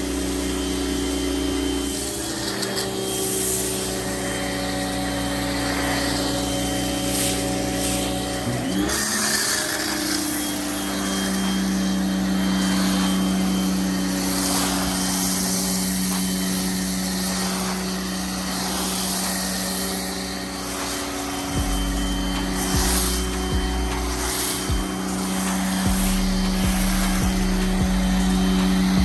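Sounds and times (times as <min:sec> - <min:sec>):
hiss of spray: 0:00.0 - 0:29.0
pressure washer motor whining: 0:00.0 - 0:29.0.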